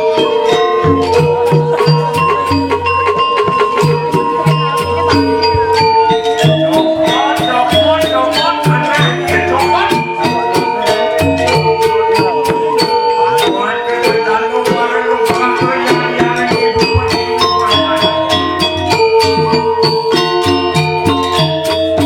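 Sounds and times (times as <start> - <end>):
gamelan playing: 0.0 - 22.0.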